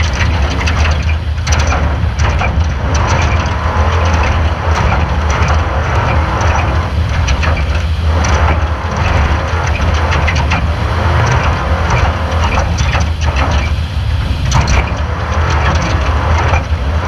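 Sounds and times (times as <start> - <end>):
race car engine rumble: 0.0 - 17.0
sharp knocks and rattles: 0.0 - 17.0.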